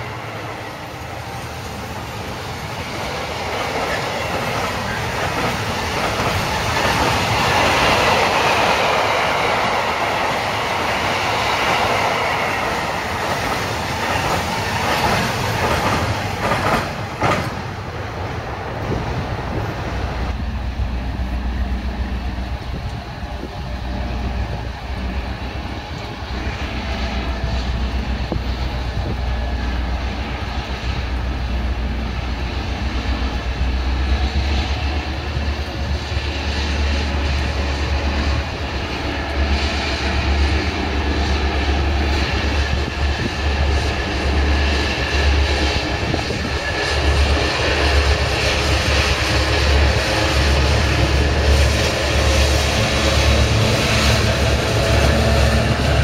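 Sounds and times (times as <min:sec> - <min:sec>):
diesel locomotives droning: 0:00.0 - 0:56.0
rail and wagon noise: 0:00.0 - 0:56.0.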